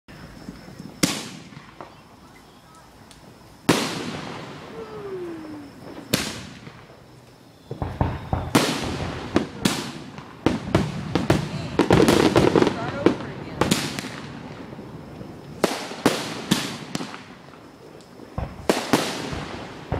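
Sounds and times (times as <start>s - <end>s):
fireworks bangs: 0.1s - 19.9s
fireworks cracks: 0.1s - 19.9s.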